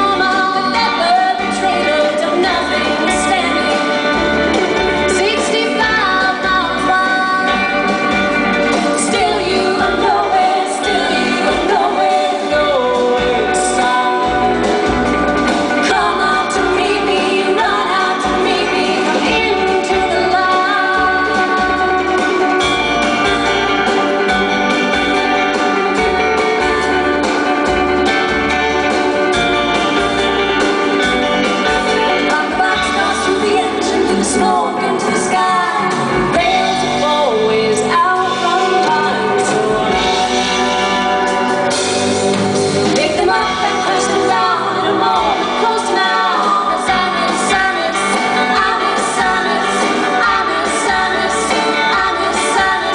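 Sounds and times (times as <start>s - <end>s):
woman singing: 0.0s - 28.6s, 29.9s - 41.1s, 42.8s - 52.9s
live rock band playing: 0.0s - 52.9s.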